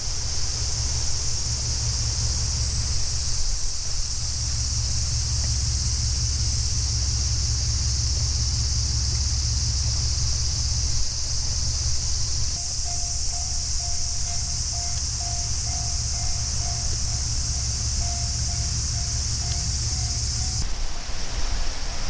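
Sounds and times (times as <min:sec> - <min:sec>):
low pulsing rumble: 0:00.0 - 0:20.7
cicadas droning: 0:00.0 - 0:22.0.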